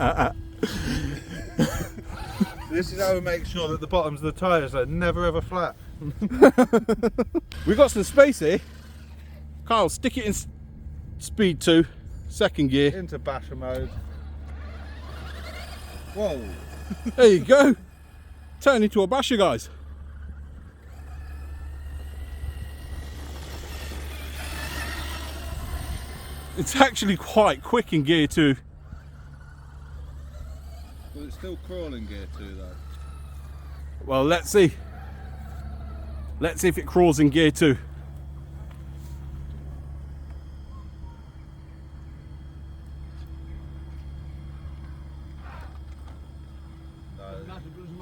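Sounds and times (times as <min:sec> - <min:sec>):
rc car motor whine: 0:00.0 - 0:48.0.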